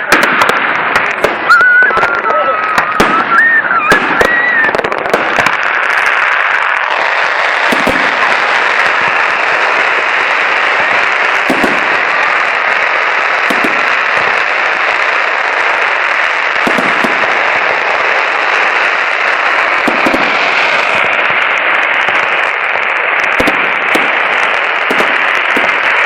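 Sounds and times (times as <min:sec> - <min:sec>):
firecrackers crackling: 0:00.0 - 0:26.0
fireworks bangs: 0:00.0 - 0:26.0.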